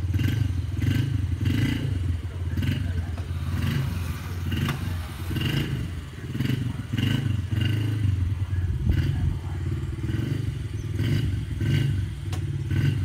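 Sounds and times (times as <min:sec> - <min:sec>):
small dirt bike engine: 0:00.0 - 0:13.0.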